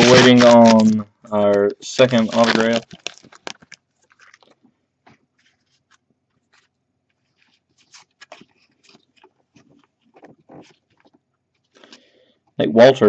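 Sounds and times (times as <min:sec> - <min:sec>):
wrapper crinkling: 0:00.0 - 0:12.1.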